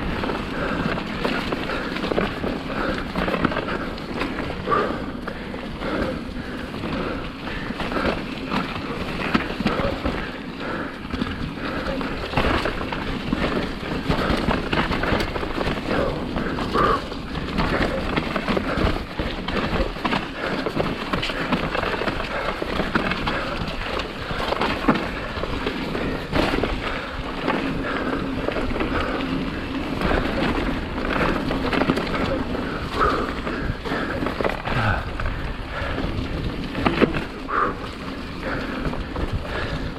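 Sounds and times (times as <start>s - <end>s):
bike rattling and knocking: 0.0s - 39.9s
bike tyres over dirt and stones: 0.0s - 39.9s.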